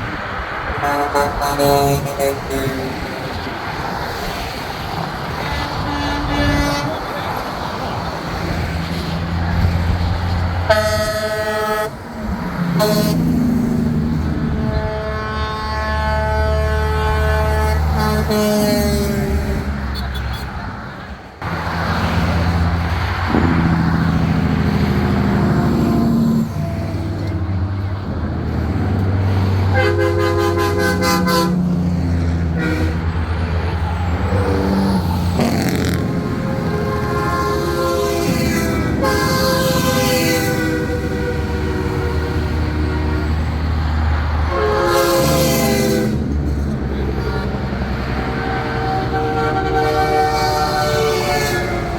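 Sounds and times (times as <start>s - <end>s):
diesel engines running: 0.0s - 51.9s
truck air horn blasts: 0.7s - 3.8s, 5.4s - 7.6s, 8.4s - 20.6s, 21.4s - 51.9s.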